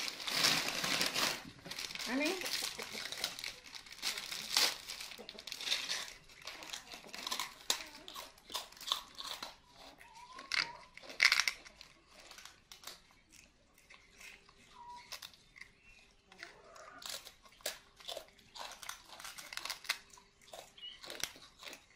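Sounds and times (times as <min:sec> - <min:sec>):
cakes crinkling and crunching: 0:00.0 - 0:21.9.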